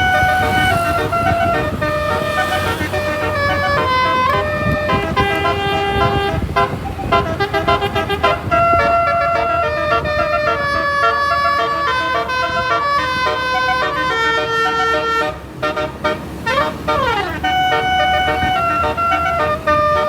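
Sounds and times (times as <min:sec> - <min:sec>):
multi-tone bus horn melody: 0:00.0 - 0:20.0.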